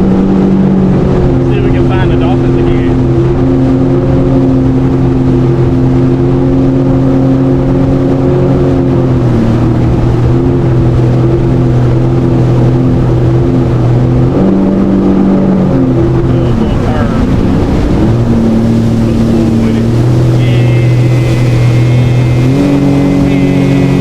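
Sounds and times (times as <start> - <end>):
jet ski engine running: 0.0 - 24.0
wind and water rushing: 0.0 - 24.0.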